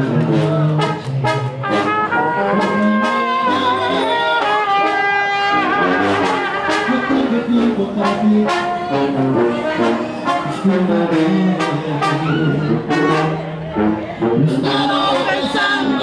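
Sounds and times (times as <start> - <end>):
brass and wind melody: 0.0 - 16.0
tuba bass line: 0.0 - 16.0.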